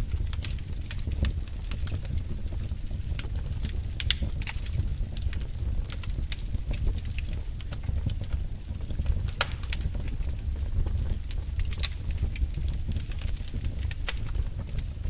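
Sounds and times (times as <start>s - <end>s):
fire crackling and popping: 0.0s - 15.0s
low steady fire rumble: 0.0s - 15.0s.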